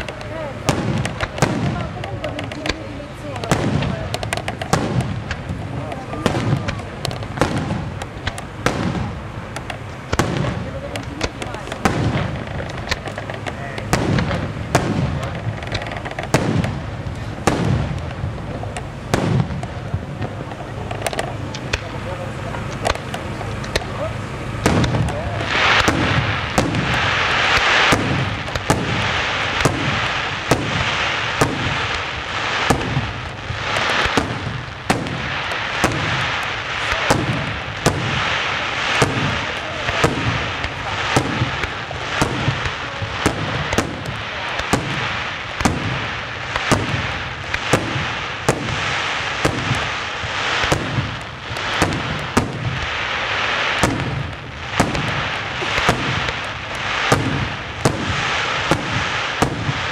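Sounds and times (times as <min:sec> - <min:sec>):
continuous fireworks noise: 0:00.0 - 0:59.9
firework shells bursting: 0:00.0 - 0:59.9.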